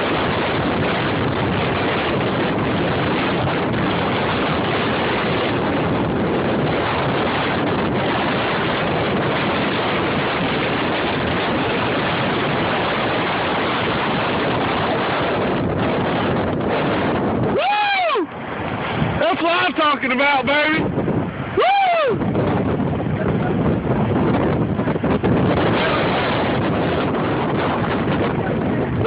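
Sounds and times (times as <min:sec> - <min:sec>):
storm wind on microphone: 0:00.0 - 0:29.0.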